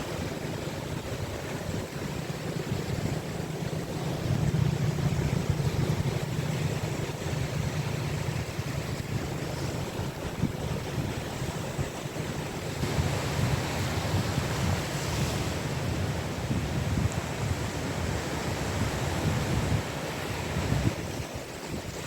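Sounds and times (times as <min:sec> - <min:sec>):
sea waves breaking on a beach: 0:00.0 - 0:22.0
wind rumbling on microphone: 0:00.0 - 0:22.0.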